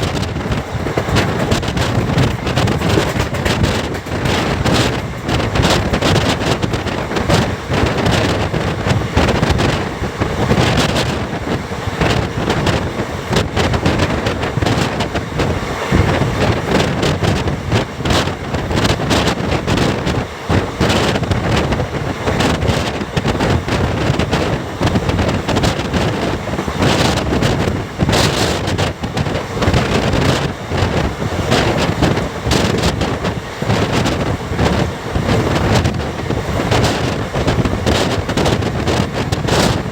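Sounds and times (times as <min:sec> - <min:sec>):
train clicks and knocks: 0:00.0 - 0:39.9
train running noise: 0:00.0 - 0:39.9
wind buffeting microphone: 0:00.0 - 0:39.9.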